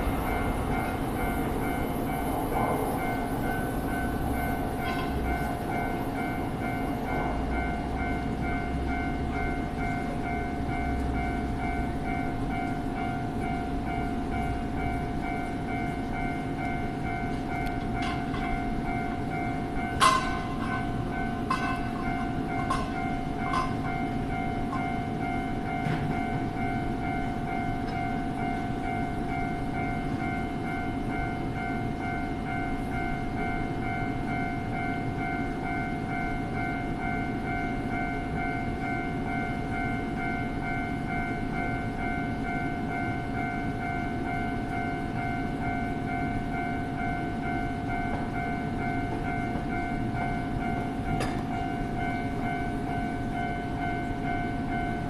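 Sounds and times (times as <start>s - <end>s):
level crossing bell ringing: 0.0s - 55.0s
passing train rumble: 0.0s - 55.0s.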